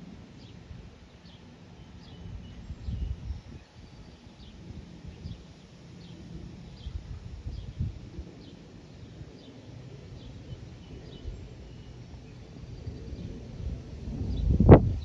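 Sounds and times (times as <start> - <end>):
low steady rumble: 0.0 - 15.0
wind rush on microphone: 0.0 - 15.0.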